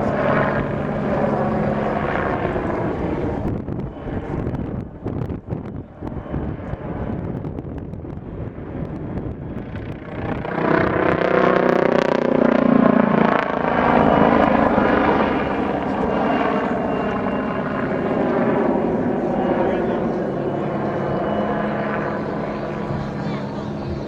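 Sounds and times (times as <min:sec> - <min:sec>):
helicopter rotor and turbine hum: 0:00.0 - 0:24.0.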